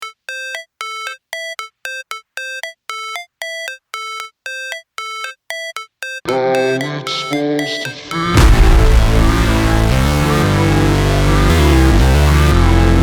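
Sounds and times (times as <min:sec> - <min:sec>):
electronic music with synth and bass: 0:00.0 - 0:13.0.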